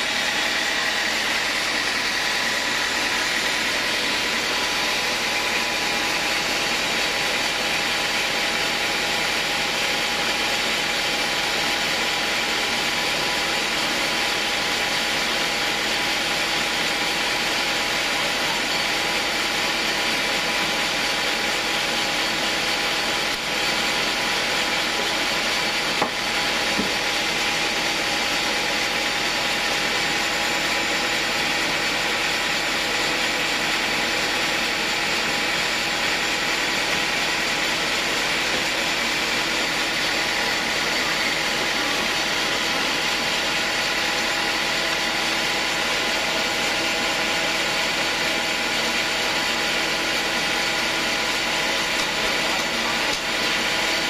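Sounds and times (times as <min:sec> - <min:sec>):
band sawmill running with whine: 0:00.0 - 0:54.0.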